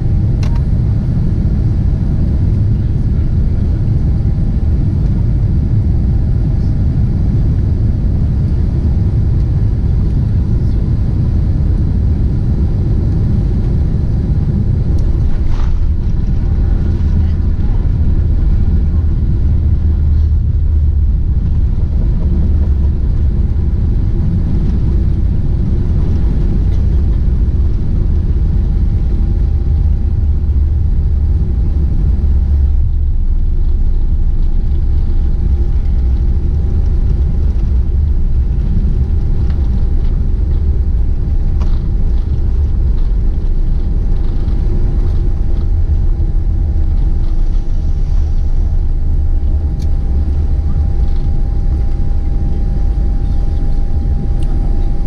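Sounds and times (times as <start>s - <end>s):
airliner cabin engine rumble: 0.0s - 55.0s
faint steady whine: 0.0s - 55.0s.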